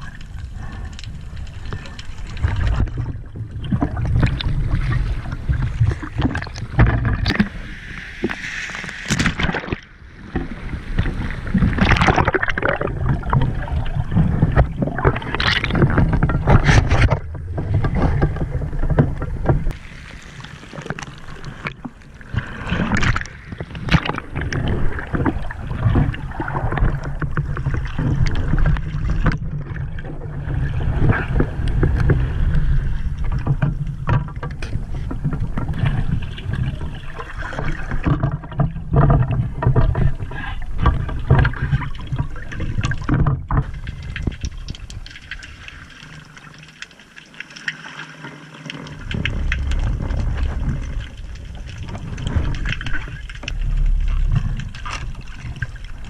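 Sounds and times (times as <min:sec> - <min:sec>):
water swishing against camera housing: 0:00.0 - 0:56.0.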